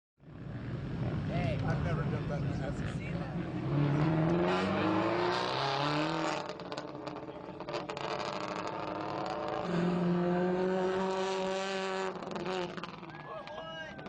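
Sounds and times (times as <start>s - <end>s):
car engine revving: 0.3s - 13.2s.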